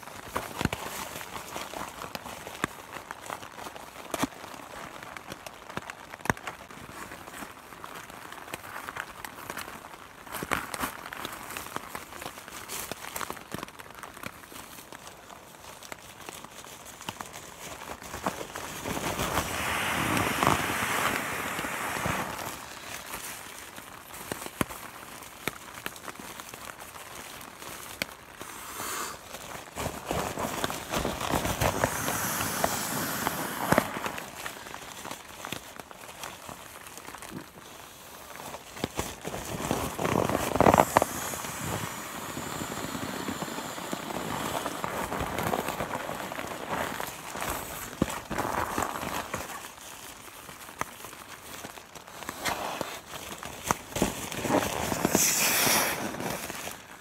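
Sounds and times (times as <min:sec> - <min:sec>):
nylon sack rustling: 0:00.0 - 0:57.0.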